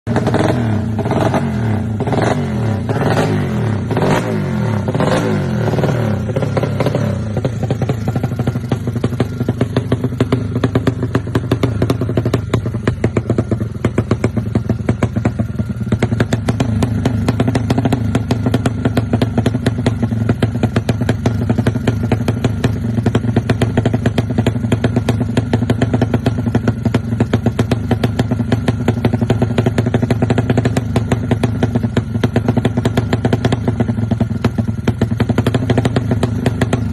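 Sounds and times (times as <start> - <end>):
motorcycle engine revving and idling: 0.0 - 36.9.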